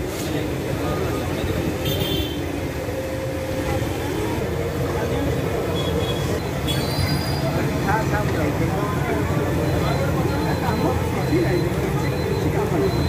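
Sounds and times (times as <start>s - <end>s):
crowd voices: 0.0s - 13.0s
low traffic rumble: 0.0s - 13.0s.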